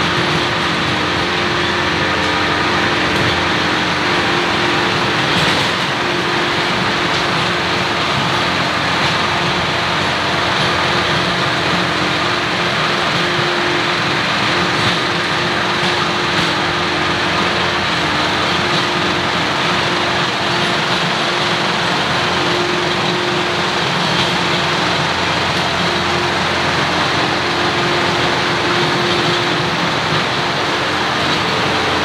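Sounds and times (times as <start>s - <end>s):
rotary tiller churning soil: 0.0s - 32.0s
tractor engine running: 0.0s - 32.0s.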